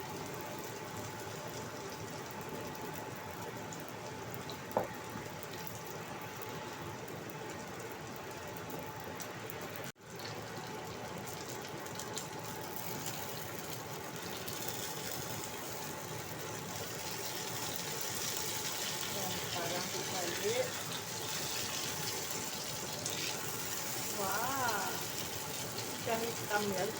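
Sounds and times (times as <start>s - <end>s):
fritters sizzling in hot oil: 0.0s - 26.9s.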